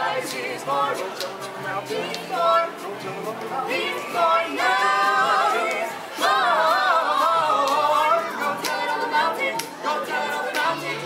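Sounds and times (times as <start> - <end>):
vocal group singing in harmony: 0.0 - 11.0.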